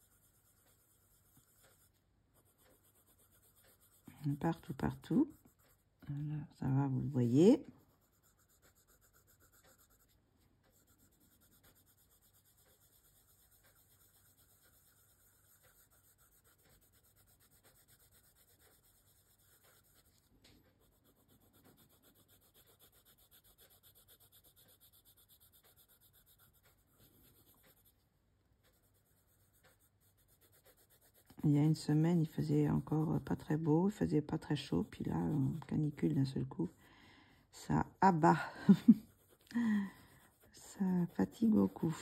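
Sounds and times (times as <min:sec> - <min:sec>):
pencil scratching on paper: 0:00.0 - 0:36.8, 0:37.6 - 0:42.0.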